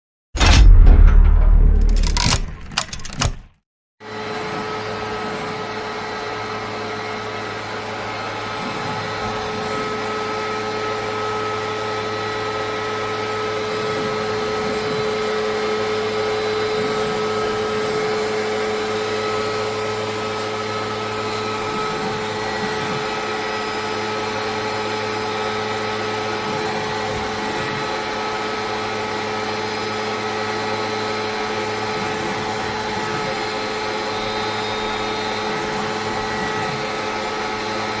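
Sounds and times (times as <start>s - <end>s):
machine hum and whine: 4.1s - 38.0s.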